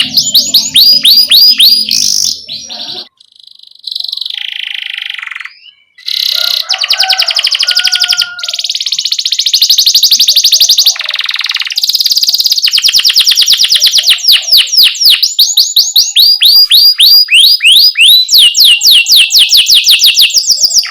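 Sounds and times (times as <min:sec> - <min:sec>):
canary trilling: 0:00.0 - 0:20.9.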